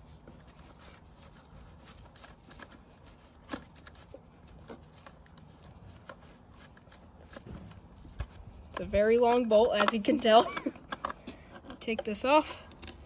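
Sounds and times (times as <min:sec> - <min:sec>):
small clicks and rubs: 0:00.0 - 0:13.0.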